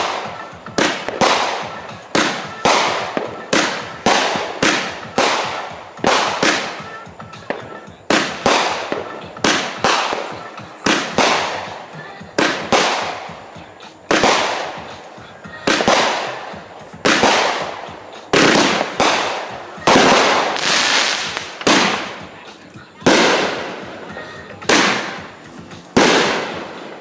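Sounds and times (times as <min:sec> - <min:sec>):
fireworks going off: 0:00.0 - 0:27.0.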